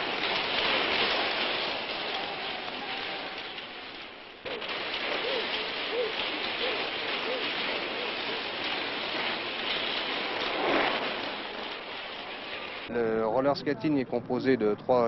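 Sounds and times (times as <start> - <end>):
roller skates rolling on asphalt: 0.0 - 12.9.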